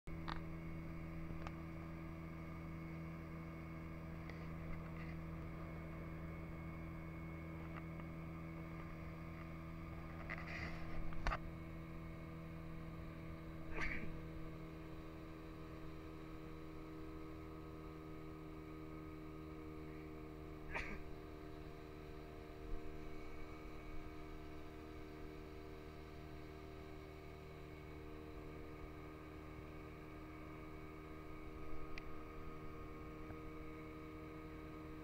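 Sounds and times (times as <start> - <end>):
motorboat engine running: 0.1 - 35.0.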